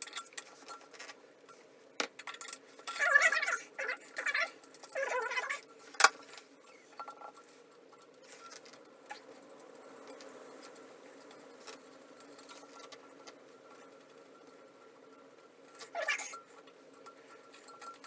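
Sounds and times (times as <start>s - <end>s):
hand tools squeaking and scraping: 2.8s - 18.0s.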